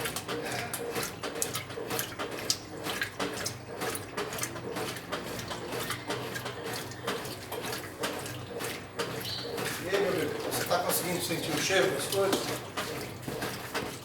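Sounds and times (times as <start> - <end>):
washing machine motor hum: 0.0 - 14.0
water sloshing: 0.0 - 14.0.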